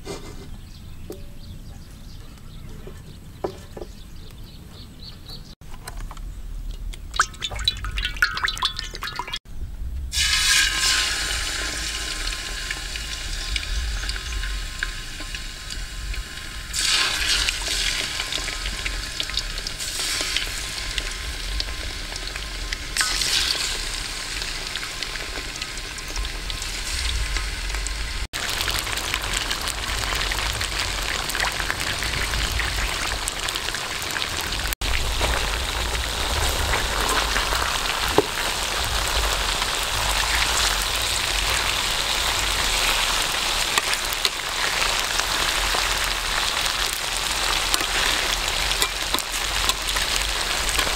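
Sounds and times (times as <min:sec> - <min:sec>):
food sizzling in hot oil: 0:07.1 - 0:09.4, 0:10.1 - 0:50.9.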